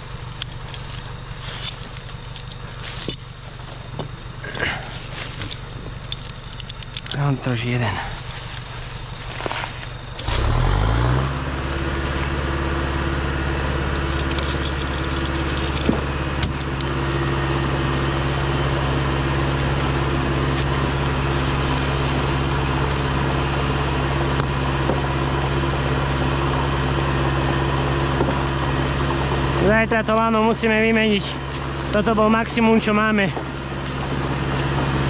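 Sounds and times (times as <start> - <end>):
diesel engine starting and idling: 0.0 - 35.0.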